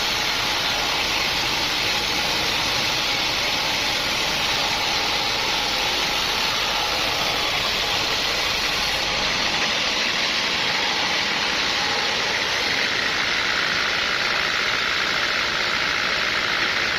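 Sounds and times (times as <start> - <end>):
sawmill machinery running: 0.0 - 16.9.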